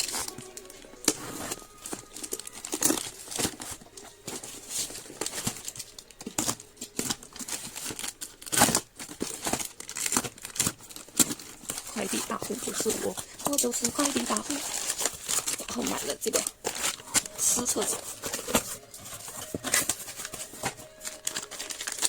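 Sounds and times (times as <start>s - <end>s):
plastic packaging crinkling: 0.0s - 22.0s
plastic ripping: 0.0s - 22.0s.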